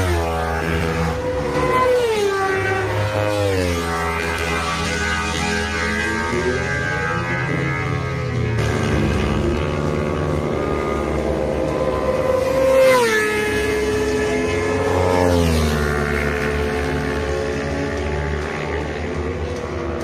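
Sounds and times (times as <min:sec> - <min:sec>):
motorcycle passing at high revs: 0:00.0 - 0:20.0.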